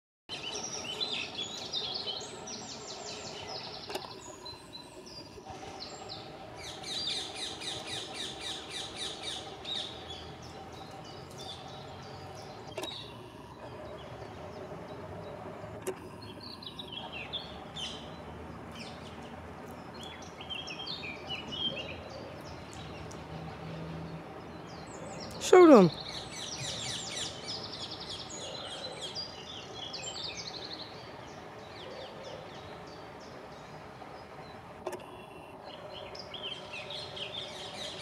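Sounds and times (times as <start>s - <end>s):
birds chirping: 0.3s - 38.0s
outdoor background noise: 0.3s - 38.0s.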